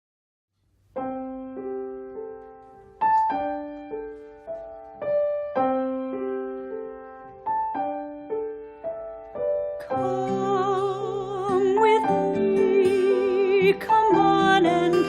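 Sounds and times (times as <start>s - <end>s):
gentle solo piano melody: 1.0s - 15.0s.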